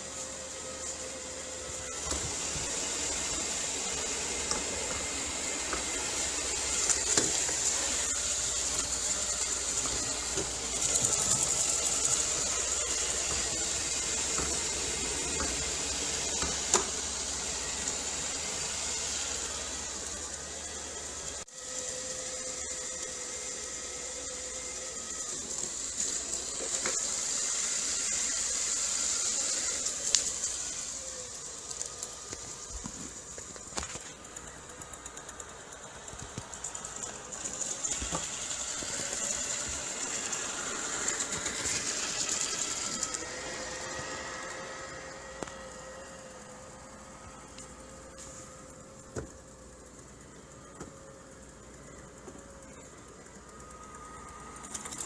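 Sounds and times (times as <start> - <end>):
robot vacuum whirring: 0.0 - 55.0.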